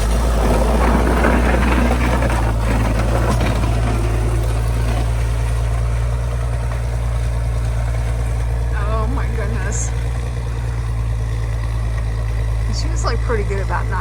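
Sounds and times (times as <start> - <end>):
snow plow engine droning: 0.0 - 14.0.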